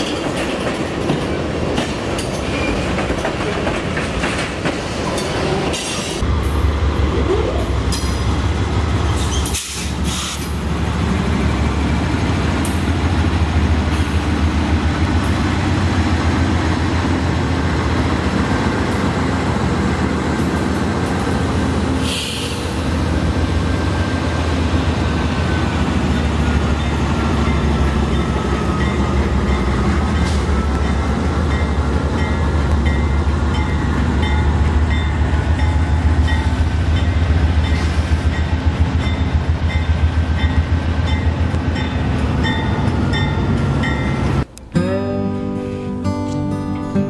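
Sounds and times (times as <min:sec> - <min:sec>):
train wheels on rails: 0:00.0 - 0:44.6
diesel locomotive rumble: 0:00.0 - 0:44.7.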